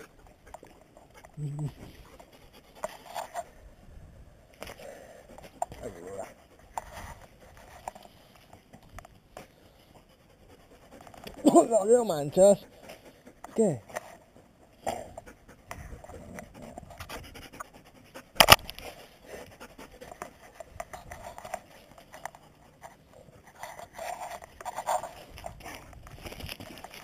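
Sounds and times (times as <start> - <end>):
camera rubbing against clothing: 0.0 - 3.7, 4.6 - 27.0.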